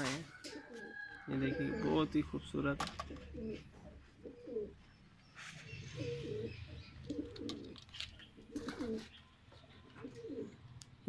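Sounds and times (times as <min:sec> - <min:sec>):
pigeons cooing: 0:00.3 - 0:11.0.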